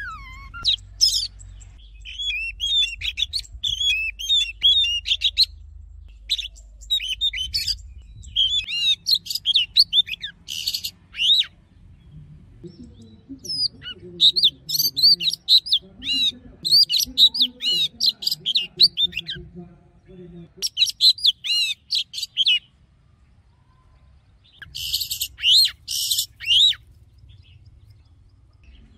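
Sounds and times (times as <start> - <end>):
songbird singing whistled notes: 0.0 - 19.3, 20.6 - 22.7, 24.4 - 28.9.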